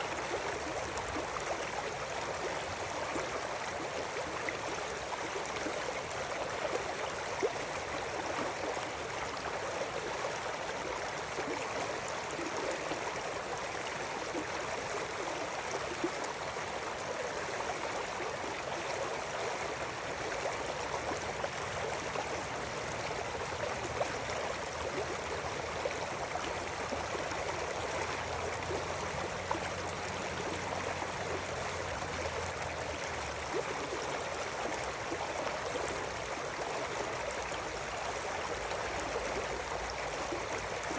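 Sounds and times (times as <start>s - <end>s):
river water running over rocks: 0.0s - 40.9s
small water splashes: 0.0s - 40.9s.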